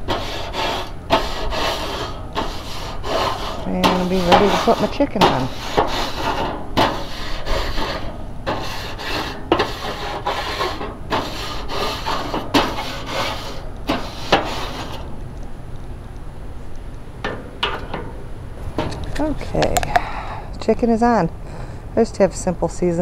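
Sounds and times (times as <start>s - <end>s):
grill pad scraping metal grates: 0.0s - 15.4s, 16.6s - 19.8s.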